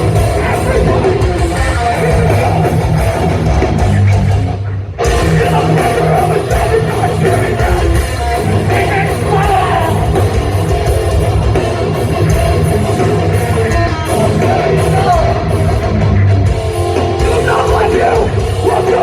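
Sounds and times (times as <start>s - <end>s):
distorted guitars: 0.0s - 19.0s
pounding drums: 0.0s - 19.0s.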